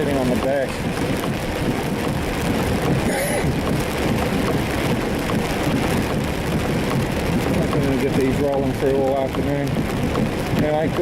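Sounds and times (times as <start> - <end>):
car engine and tyre noise: 0.0 - 11.0
heavy rain on a car: 0.0 - 11.0.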